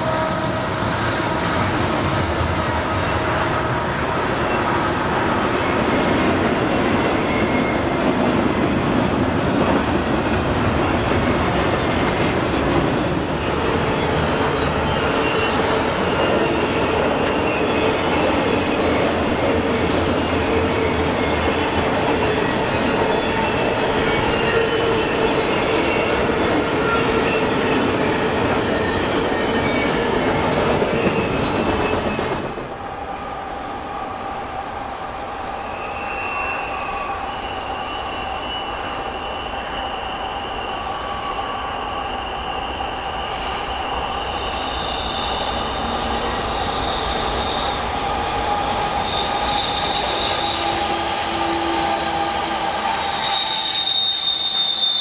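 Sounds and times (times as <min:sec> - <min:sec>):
freight train approaching: 0:00.0 - 0:55.0
train rumbling across steel bridge: 0:00.0 - 0:55.0
train wheels squealing: 0:04.3 - 0:55.0.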